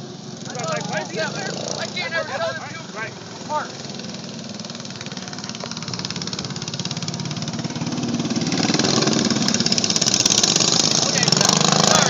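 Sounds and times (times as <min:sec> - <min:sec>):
go-kart engines buzzing: 0:00.0 - 0:12.0.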